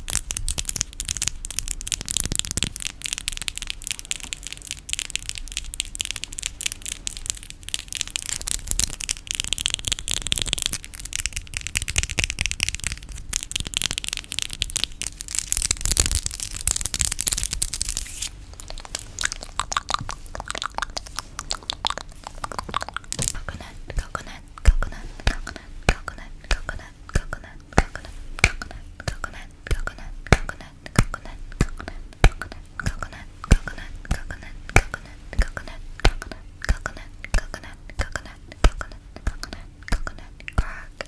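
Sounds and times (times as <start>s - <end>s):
asmr tapping and scratching: 0.5s - 40.2s.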